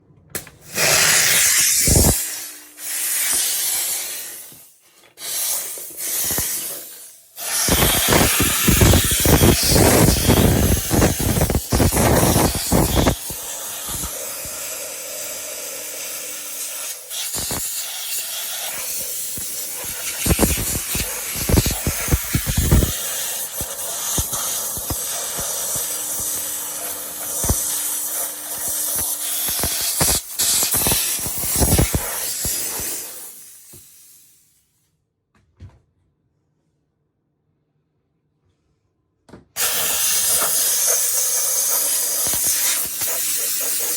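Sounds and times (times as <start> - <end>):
steam cleaner hissing: 0.4 - 34.5, 39.6 - 43.9.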